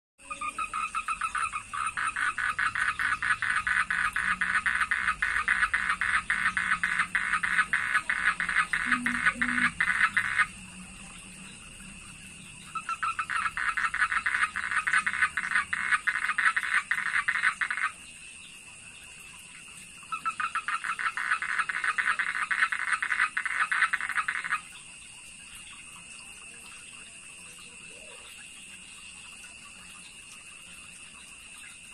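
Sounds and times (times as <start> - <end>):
toad calling in pulsing trills: 0.2 - 31.9.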